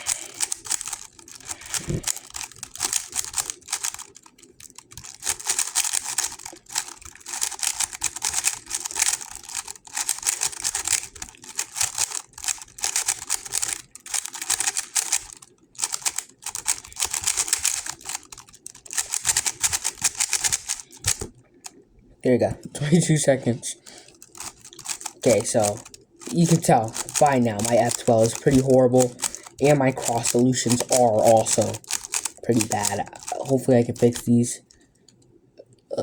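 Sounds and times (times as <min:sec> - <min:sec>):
plastic puzzle cube clicking: 0:00.0 - 0:21.8, 0:24.1 - 0:34.4.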